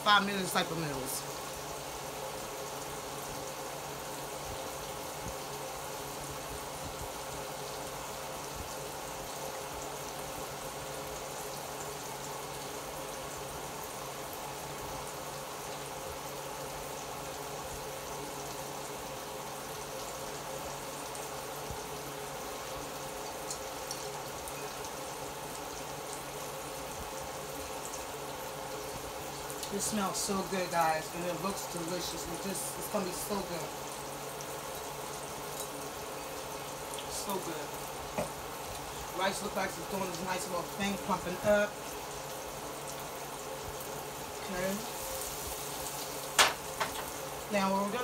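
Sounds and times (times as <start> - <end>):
onions sizzling in oil: 0.0 - 48.0
pans simmering: 0.0 - 48.0.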